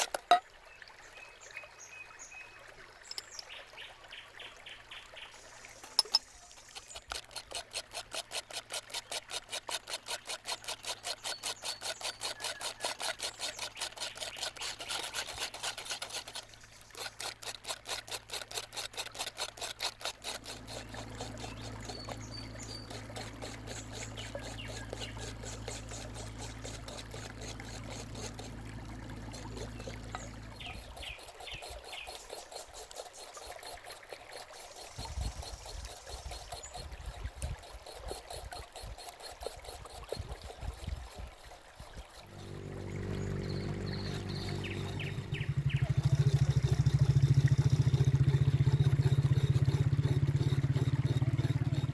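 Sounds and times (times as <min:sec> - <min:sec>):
small motor humming: 0:00.0 - 0:00.4, 0:05.5 - 0:51.9
whisking batter in a bowl: 0:06.7 - 0:28.6, 0:29.3 - 0:42.4, 0:43.8 - 0:51.9.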